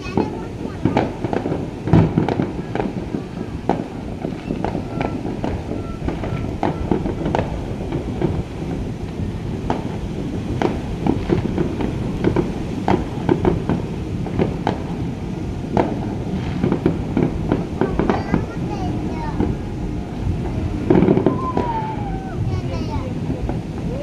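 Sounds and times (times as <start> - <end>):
fireworks bangs and pops: 0.0 - 24.0
low rumble: 2.8 - 24.0.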